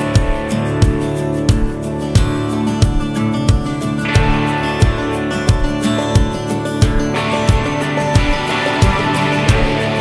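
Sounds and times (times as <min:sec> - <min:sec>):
guitar-led music with beat: 0:00.0 - 0:10.0.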